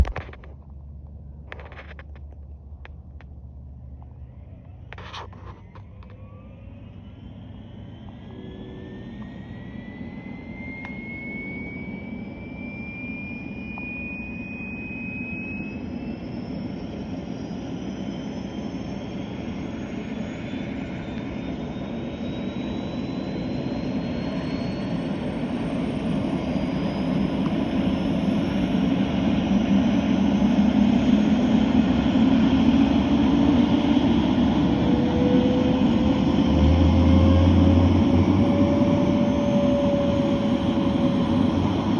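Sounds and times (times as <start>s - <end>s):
low rotor rumble: 0.0s - 41.9s
turbine engine whine rising: 0.0s - 41.9s.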